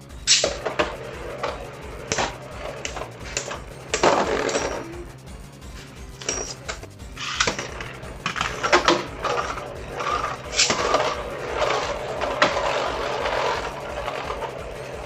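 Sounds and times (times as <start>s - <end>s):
spinning tops scraping whir: 0.0s - 15.0s
spinning tops clacking together: 0.2s - 5.1s, 6.2s - 15.0s.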